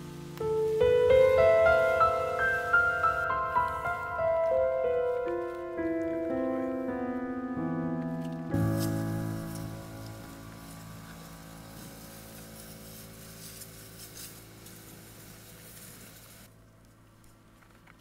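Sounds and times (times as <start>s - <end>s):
sustained piano chord: 0.0s - 15.6s.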